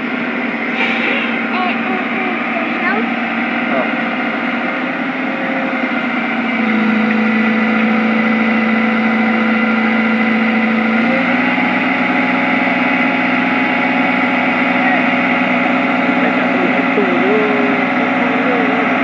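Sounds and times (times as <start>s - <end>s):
heavy diesel engines running: 0.0s - 19.0s.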